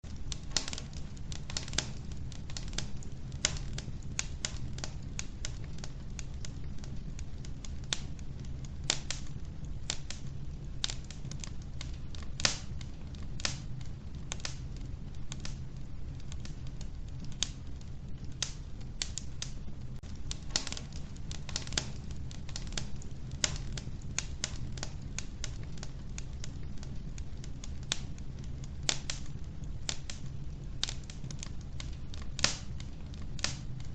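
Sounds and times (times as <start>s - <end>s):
wood fire crackling in stove: 0.0s - 33.9s.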